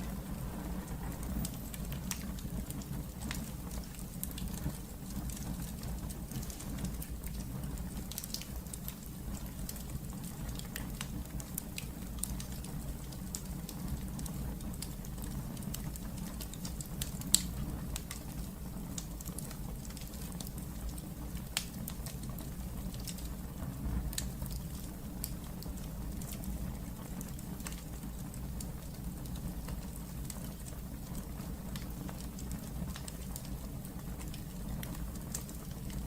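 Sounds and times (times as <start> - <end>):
fire crackles and pops: 0.0 - 36.0
fire rumbling in fireplace: 0.0 - 36.0.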